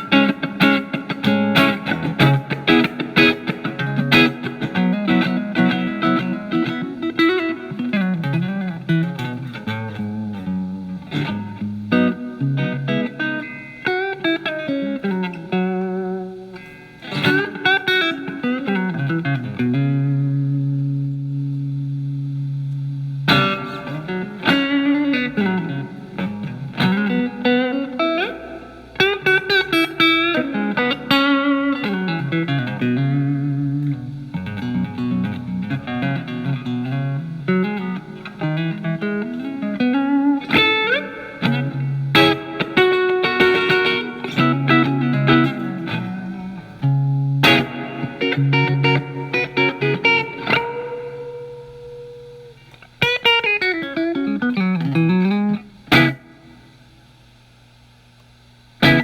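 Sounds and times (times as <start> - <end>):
lightly driven electric guitar: 0.0 - 59.0.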